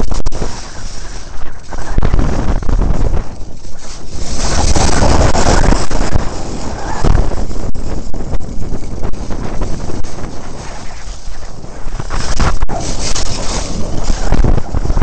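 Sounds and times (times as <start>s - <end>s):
skis scraping on hard snow: 0.0s - 15.0s
wind buffeting microphone: 0.0s - 15.0s.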